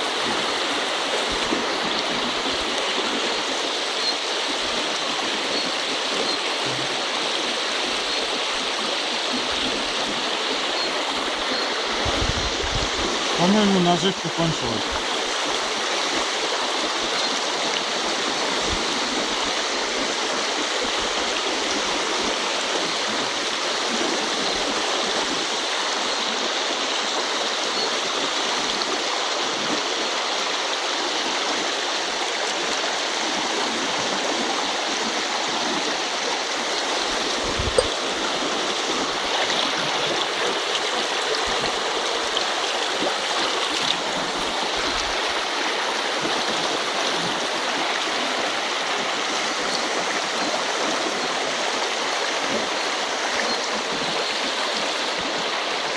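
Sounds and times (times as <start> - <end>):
river flowing over stones: 0.0 - 55.9.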